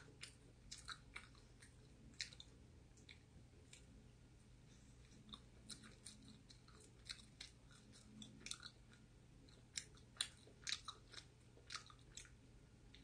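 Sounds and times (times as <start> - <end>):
mouth clicks and smacks: 0.0 - 4.0, 5.0 - 13.0
wet chewing: 0.0 - 4.0, 4.8 - 13.0.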